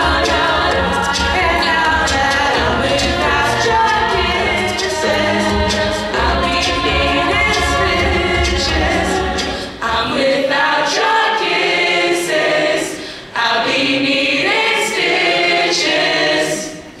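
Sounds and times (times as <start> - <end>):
a cappella choir singing: 0.0 - 17.0.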